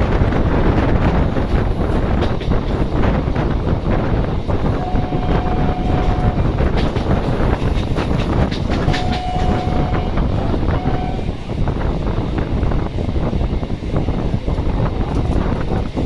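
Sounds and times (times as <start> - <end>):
train rumbling and wheel clatter: 0.0 - 16.0.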